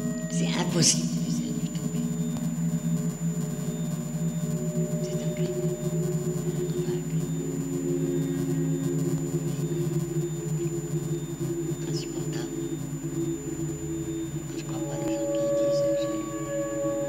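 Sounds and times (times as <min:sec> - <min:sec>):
electroacoustic drone of low tones: 0:00.0 - 0:17.0.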